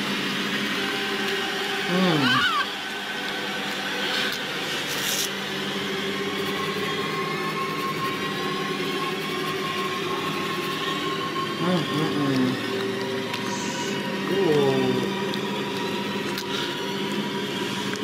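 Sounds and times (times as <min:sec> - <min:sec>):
droning horror score: 0:00.0 - 0:18.0.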